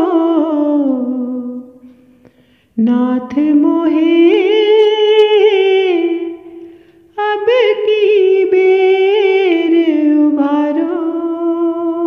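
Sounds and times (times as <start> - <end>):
person singing devotional song: 0.0 - 2.1, 2.7 - 12.0.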